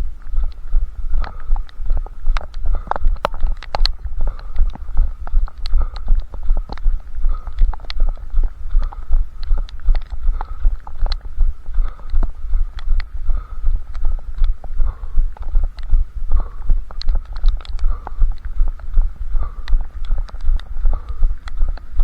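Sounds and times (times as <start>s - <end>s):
sharp clicks: 0.2s - 22.0s.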